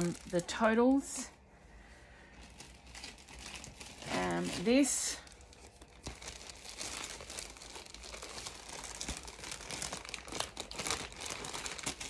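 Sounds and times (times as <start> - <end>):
packaging crinkling and rustling: 0.0 - 1.3, 2.3 - 12.0.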